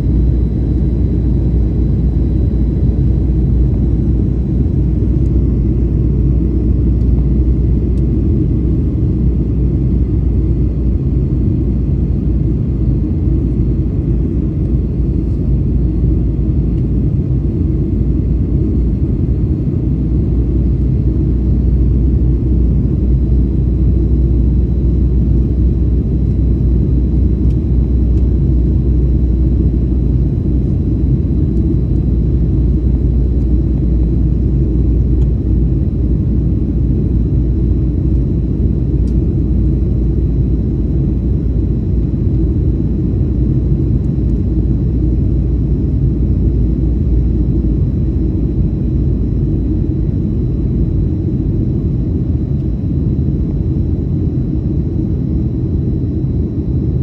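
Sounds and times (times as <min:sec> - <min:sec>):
airplane cabin engine drone: 0:00.0 - 0:57.0
faint high whine: 0:00.0 - 0:57.0.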